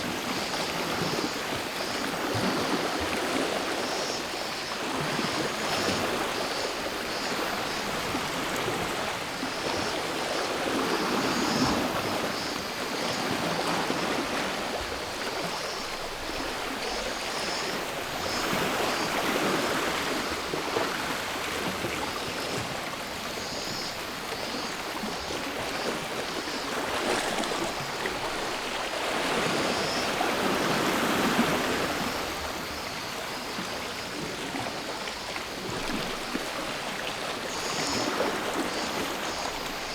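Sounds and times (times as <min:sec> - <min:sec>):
cicadas buzzing: 0:00.4 - 0:21.4, 0:22.1 - 0:39.9.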